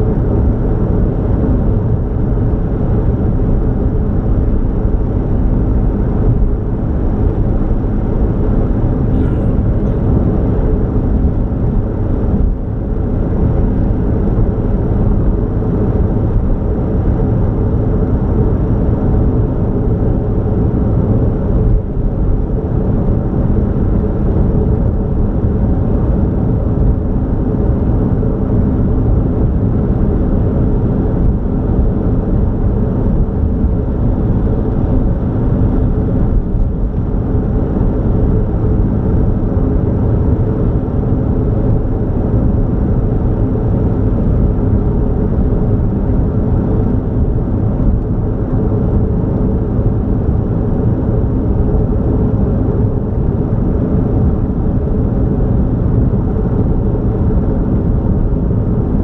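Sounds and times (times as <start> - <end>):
car driving at highway speed: 0.0 - 59.0.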